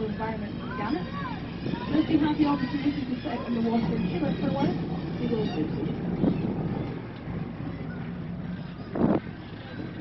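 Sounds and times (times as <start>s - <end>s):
boat engine humming: 0.0s - 10.0s
wind buffeting microphone: 0.0s - 10.0s.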